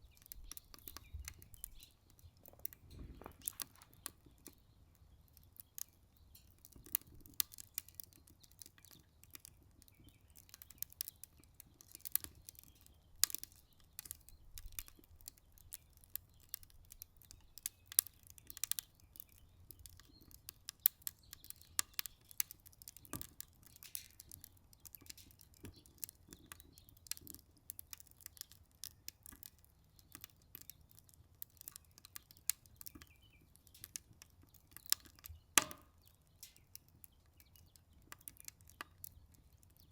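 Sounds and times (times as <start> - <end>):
wood fire popping and snapping: 0.0 - 39.9.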